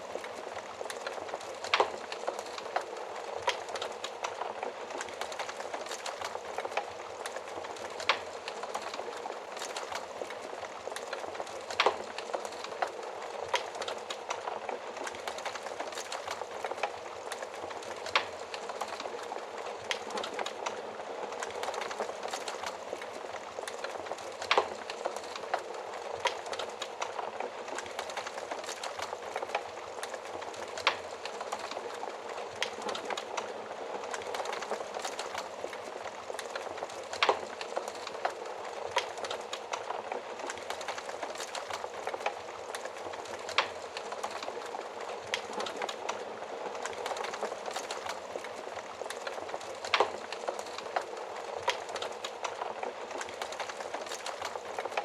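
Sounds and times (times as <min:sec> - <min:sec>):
wood fire crackling in an oven: 0:00.0 - 0:55.0.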